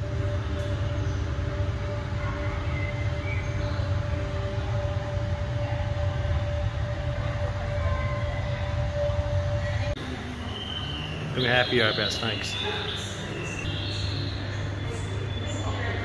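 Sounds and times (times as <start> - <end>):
constant high tone: 0.0 - 16.0
low machinery hum: 0.0 - 16.0.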